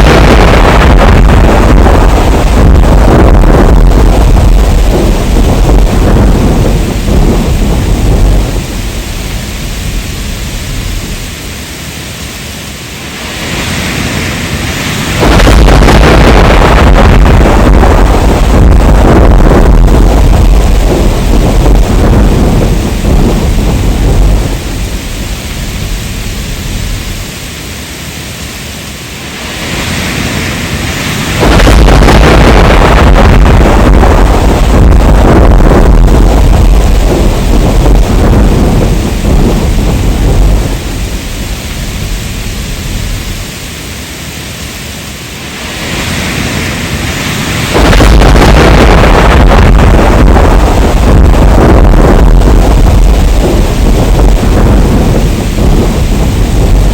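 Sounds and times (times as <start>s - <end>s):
deep rolling thunder: 0.0s - 11.7s, 13.0s - 27.5s, 29.2s - 44.0s, 44.8s - 56.9s
heavy rain: 0.0s - 56.9s.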